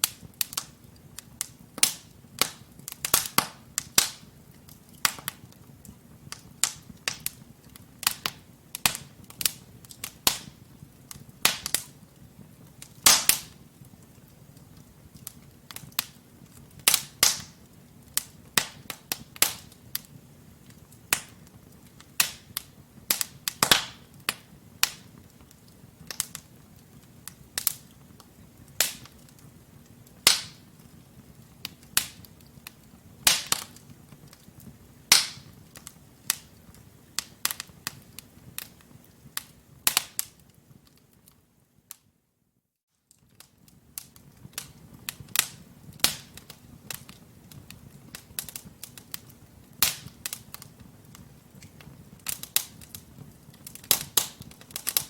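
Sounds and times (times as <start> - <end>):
rumble of flames: 0.0 - 41.2, 43.2 - 55.0
logs crackling and popping: 0.0 - 42.0, 43.1 - 55.0.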